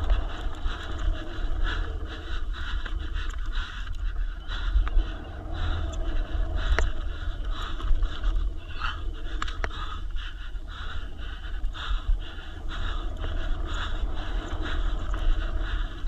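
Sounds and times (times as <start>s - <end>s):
rider breathing hard: 0.0s - 16.0s
tyres rumbling on trail: 0.0s - 16.0s.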